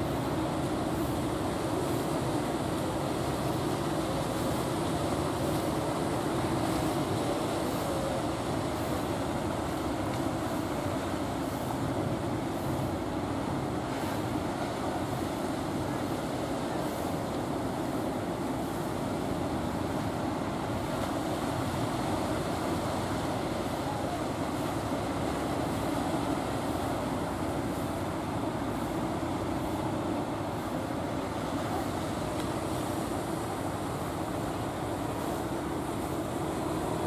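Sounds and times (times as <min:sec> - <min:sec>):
boat engines rumbling: 0:00.0 - 0:37.0
choppy water washing: 0:00.0 - 0:37.0.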